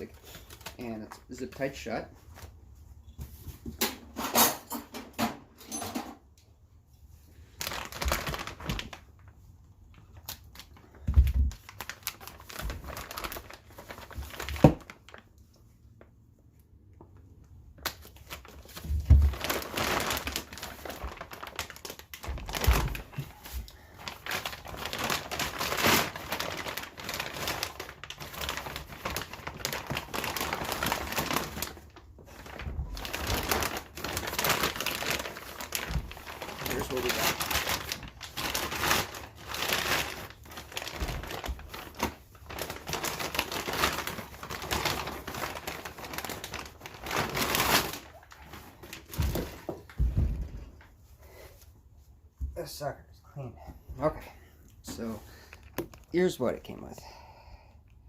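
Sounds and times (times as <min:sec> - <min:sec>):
plastic wrapping crinkling: 0:00.0 - 0:03.2, 0:07.1 - 0:16.2, 0:16.8 - 0:51.6.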